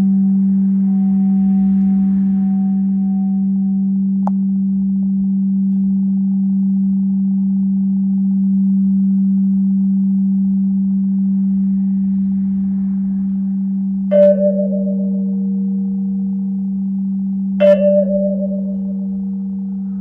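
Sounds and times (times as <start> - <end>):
singing bowl low tone: 0.0 - 20.0.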